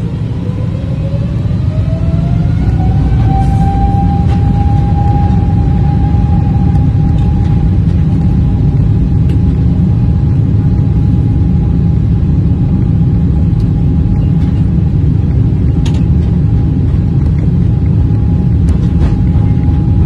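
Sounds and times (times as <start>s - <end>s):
jet engine rumble in cabin: 0.0s - 20.0s
thin steady engine whine: 0.0s - 20.0s.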